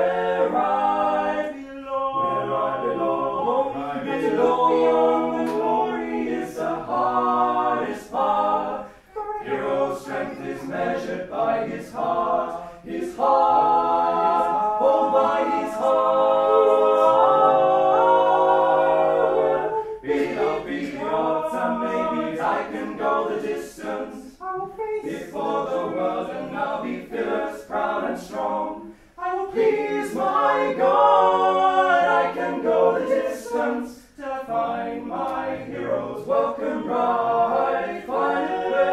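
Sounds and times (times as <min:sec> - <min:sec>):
choir singing a cappella: 0:00.0 - 0:38.9.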